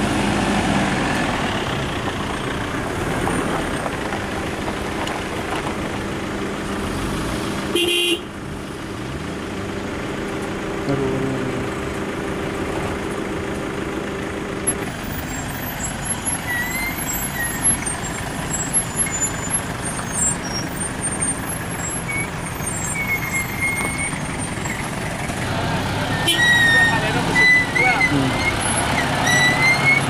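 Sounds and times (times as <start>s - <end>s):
minibus driving past: 0.0s - 7.7s, 8.3s - 30.0s
vehicle engines idling: 0.0s - 30.0s.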